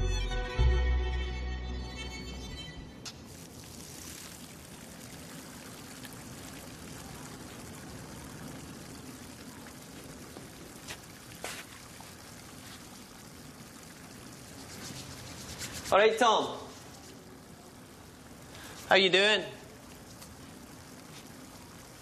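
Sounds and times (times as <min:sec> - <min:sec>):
liquid trickling into urinals: 0:03.1 - 0:22.0.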